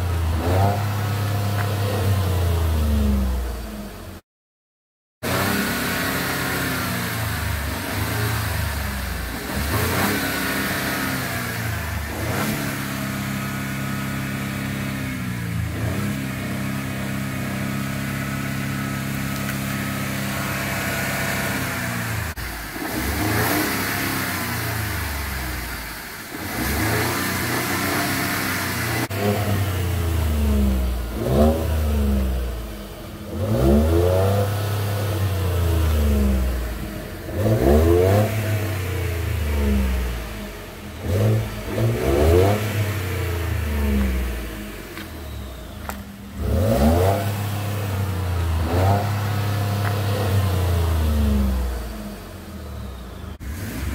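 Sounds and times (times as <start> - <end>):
pickup truck engine revving: 0.0 - 3.4, 5.2 - 53.9.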